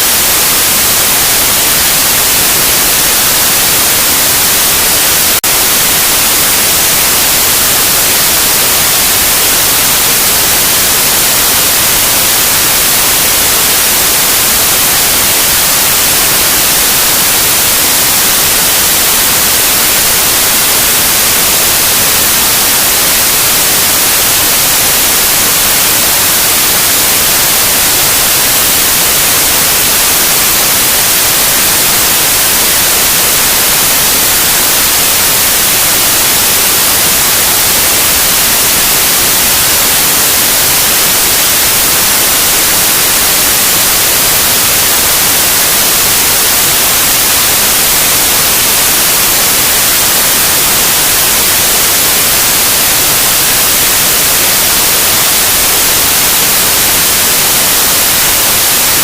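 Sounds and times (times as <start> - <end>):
loud white noise hiss: 0.0 - 59.0.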